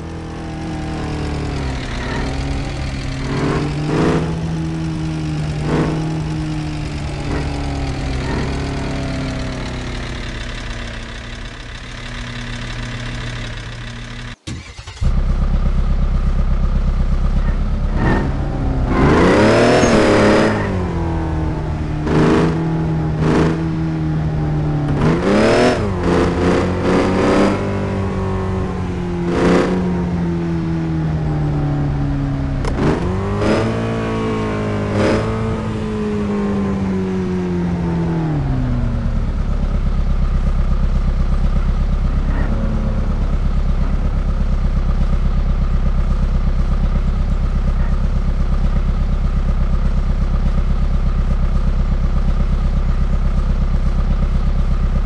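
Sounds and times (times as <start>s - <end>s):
vehicle engine idling and revving: 0.0s - 55.0s.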